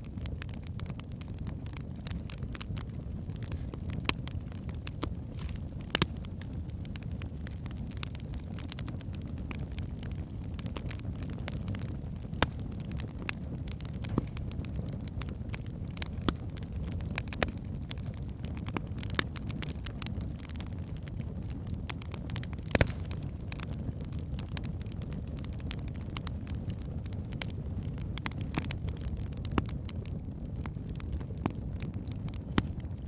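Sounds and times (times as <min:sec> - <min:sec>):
logs crackling and popping: 0:00.0 - 0:33.0
low rumble of flames: 0:00.0 - 0:33.0.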